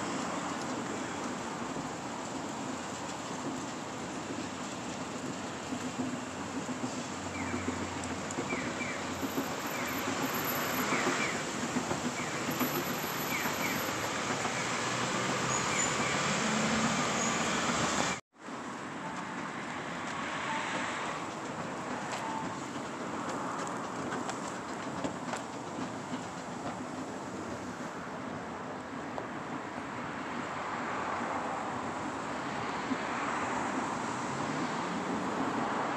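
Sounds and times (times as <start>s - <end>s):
traffic noise: 0.0s - 35.9s.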